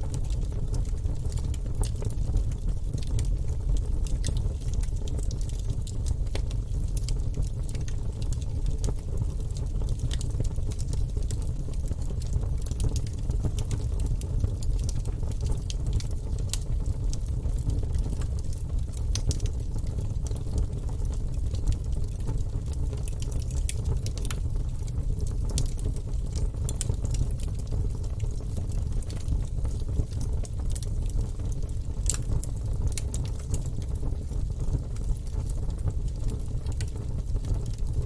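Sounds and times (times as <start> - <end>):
fire crackling and popping: 0.0 - 38.0
low fire rumble: 0.0 - 38.0.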